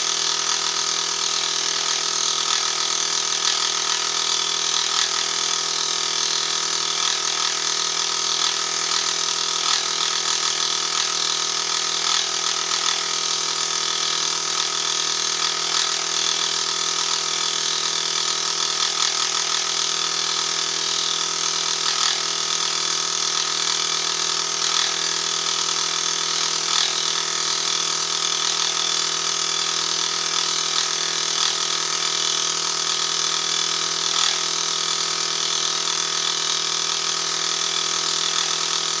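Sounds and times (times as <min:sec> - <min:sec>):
milling machine running: 0:00.0 - 0:39.0.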